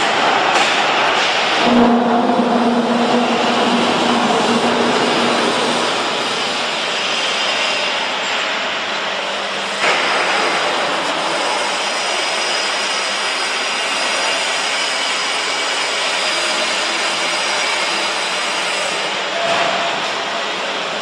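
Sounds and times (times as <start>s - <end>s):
production line machinery running: 0.0s - 21.0s.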